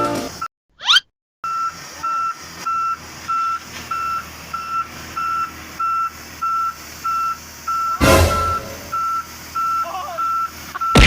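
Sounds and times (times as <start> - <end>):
reversing alarm beeping: 1.4 - 11.0.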